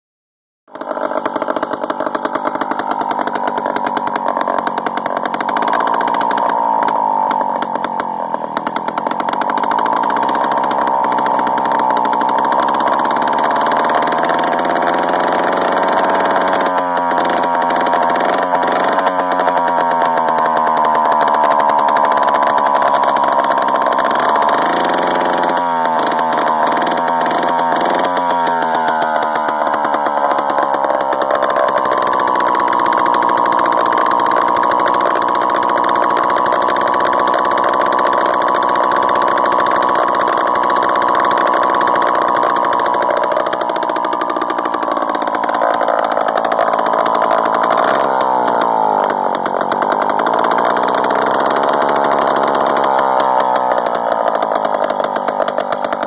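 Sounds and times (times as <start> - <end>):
chainsaw engine running: 0.7 - 56.0.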